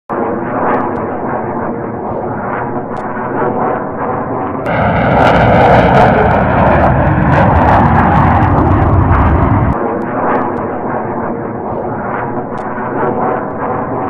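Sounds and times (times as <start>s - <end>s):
fighter jet engine roar: 0.2s - 14.0s.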